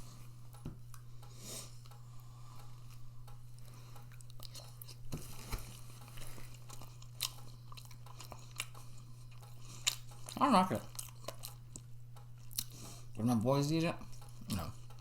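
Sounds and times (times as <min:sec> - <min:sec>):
person chewing food: 0:00.0 - 0:13.2, 0:14.0 - 0:15.0
steady low hum: 0:00.0 - 0:15.0.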